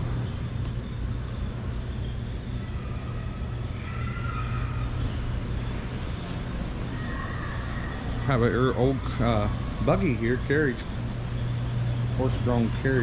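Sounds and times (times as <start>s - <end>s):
low hum: 0.0s - 13.0s
room noise: 0.0s - 13.0s.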